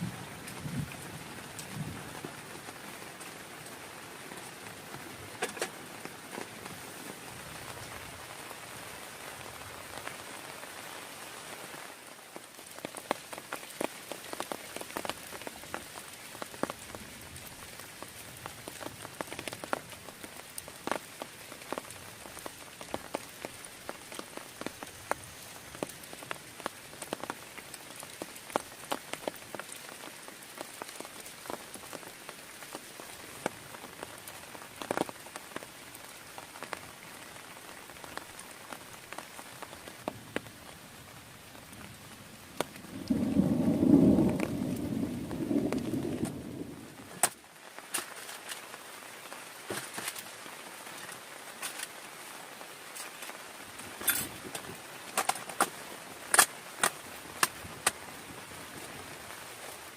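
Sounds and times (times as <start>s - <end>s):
heavy rain hissing: 0.0s - 59.9s
raindrops tapping a surface: 0.0s - 59.9s.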